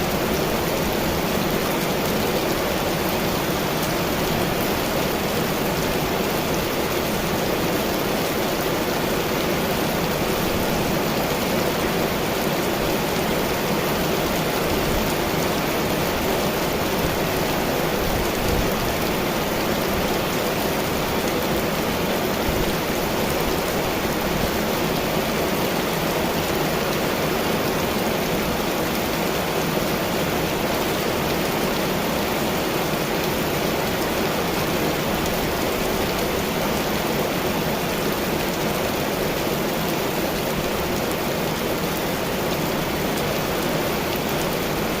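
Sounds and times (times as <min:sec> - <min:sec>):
heavy storm rain: 0:00.0 - 0:45.0.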